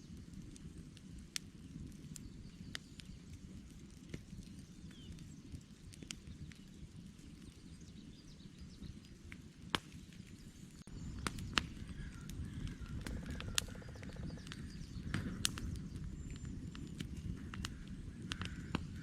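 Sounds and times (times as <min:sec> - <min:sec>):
campfire crackling and popping: 0:00.0 - 0:19.0
low rumble of burning logs: 0:00.0 - 0:19.0.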